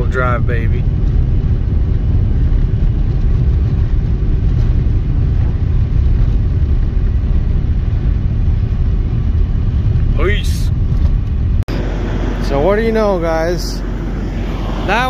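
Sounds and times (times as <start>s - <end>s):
car driving on snowy road: 0.0s - 15.0s.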